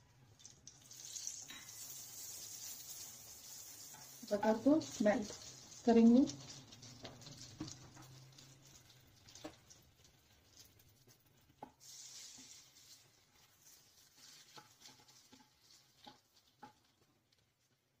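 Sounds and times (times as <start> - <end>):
butter sizzling in a pan: 0.0 - 18.0.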